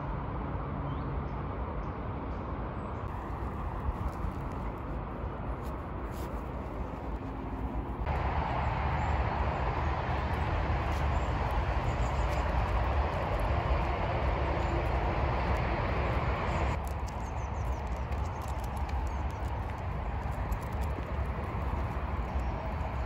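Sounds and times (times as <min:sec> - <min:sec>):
deep rumble: 0:03.1 - 0:23.0
steady rushing noise: 0:03.1 - 0:23.0.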